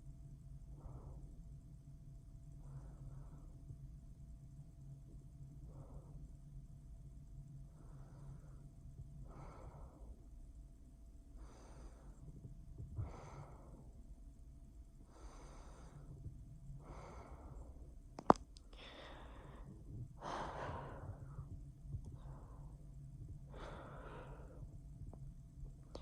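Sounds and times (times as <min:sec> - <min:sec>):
humidifier humming: 0:00.0 - 0:26.0
soft airy breathing: 0:00.0 - 0:26.0.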